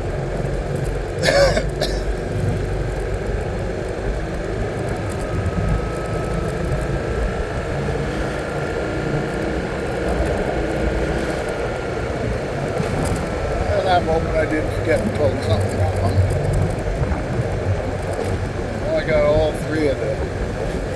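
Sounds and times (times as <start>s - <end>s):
vehicle engine and road noise: 0.0s - 20.9s.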